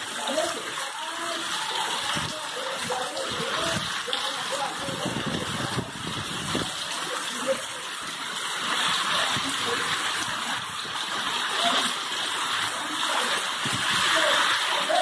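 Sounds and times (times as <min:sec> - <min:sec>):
heavy rain on pavement: 0:00.0 - 0:15.0
water streaming from roof edge: 0:00.0 - 0:15.0.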